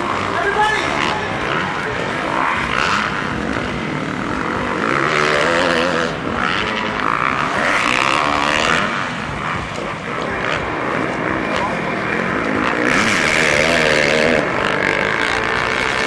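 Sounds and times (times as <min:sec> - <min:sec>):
motorbike engines revving: 0:00.0 - 0:16.0.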